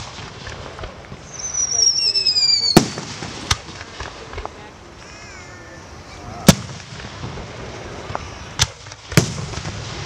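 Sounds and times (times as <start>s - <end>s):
fireworks bangs: 0.0s - 5.0s, 5.7s - 10.0s.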